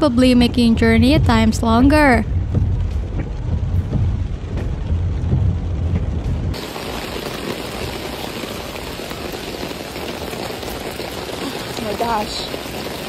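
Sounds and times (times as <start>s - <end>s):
heavy rain on flooded pavement: 0.1s - 13.0s.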